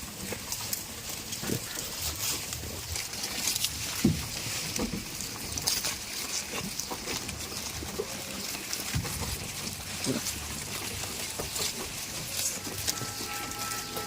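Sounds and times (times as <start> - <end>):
goats rustling: 0.0 - 14.0.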